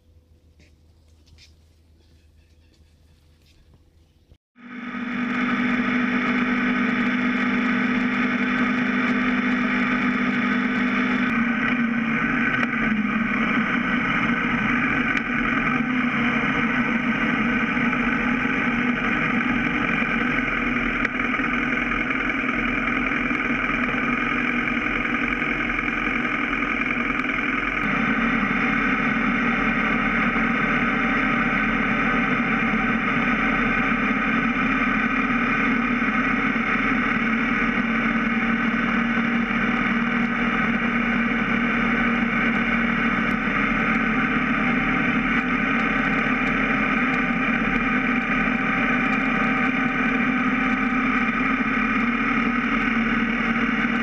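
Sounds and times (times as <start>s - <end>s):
wind and road noise: 0.0s - 54.0s
motorcycle engine running: 4.6s - 54.0s.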